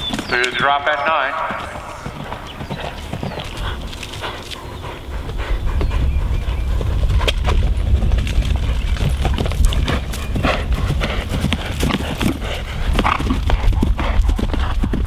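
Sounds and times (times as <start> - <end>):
horse hoofbeats galloping on grass: 0.0 - 15.0.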